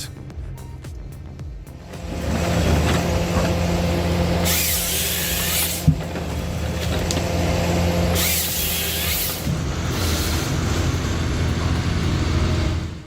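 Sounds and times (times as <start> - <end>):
heavy machine engine humming: 0.0 - 13.0.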